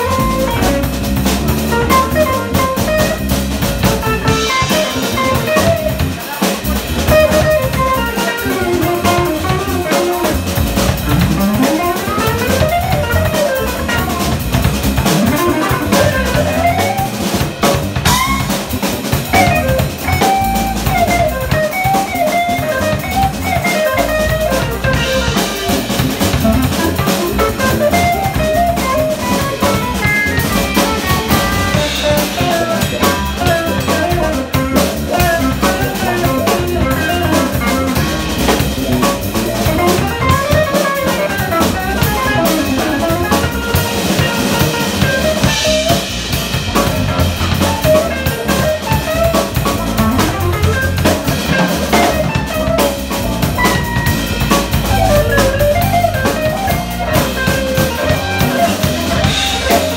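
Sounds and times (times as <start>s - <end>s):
drum kit: 0.0s - 59.9s
electric bass: 0.0s - 59.9s
electric guitar melody: 0.0s - 59.9s.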